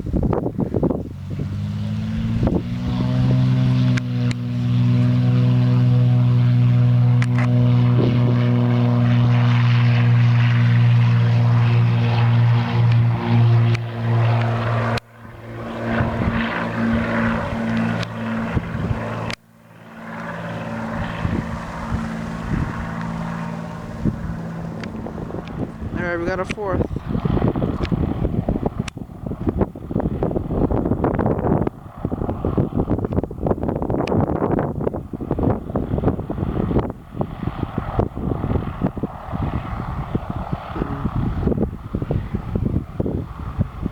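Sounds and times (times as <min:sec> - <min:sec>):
propeller plane engine: 0:00.0 - 0:43.9.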